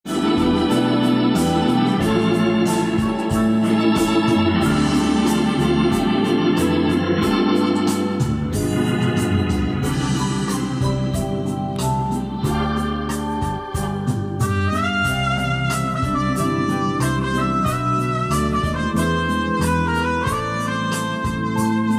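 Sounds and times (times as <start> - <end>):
music with sustained chords: 0.0 - 21.9
stepping bass line: 0.0 - 21.9.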